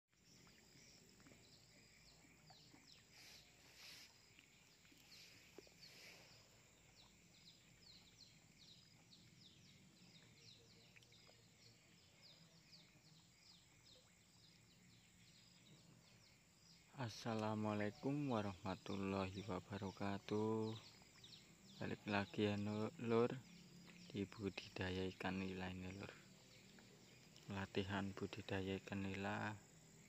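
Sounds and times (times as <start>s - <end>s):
bird chirping: 0.1s - 30.0s
faint outdoor ambience: 0.1s - 30.0s.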